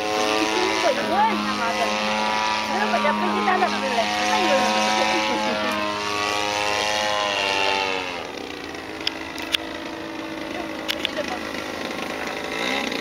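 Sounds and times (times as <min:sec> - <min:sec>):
model plane motor and propeller: 0:00.0 - 0:13.0.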